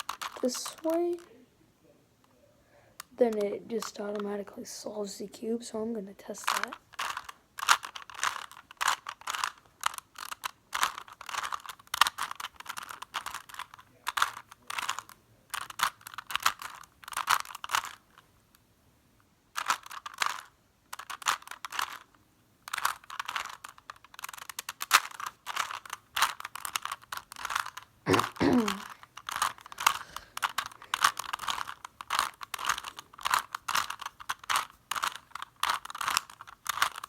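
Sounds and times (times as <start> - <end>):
puzzle cube layers clicking: 0.0 - 1.3, 6.3 - 18.2, 19.6 - 37.0.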